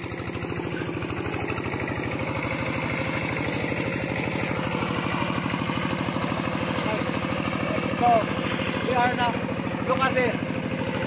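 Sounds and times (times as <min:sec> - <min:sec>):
walking tractor engine chugging: 0:00.0 - 0:11.0.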